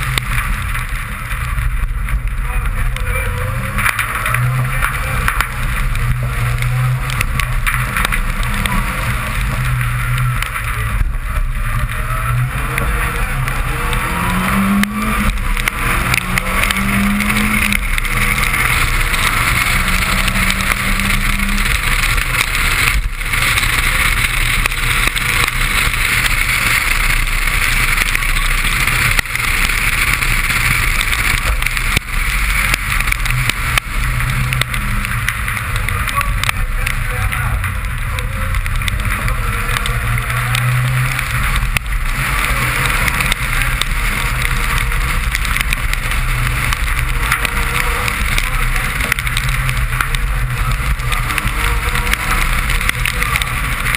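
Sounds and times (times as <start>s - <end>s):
rally car engine revving: 0.0s - 53.9s
tyres hissing on wet road: 0.0s - 53.9s.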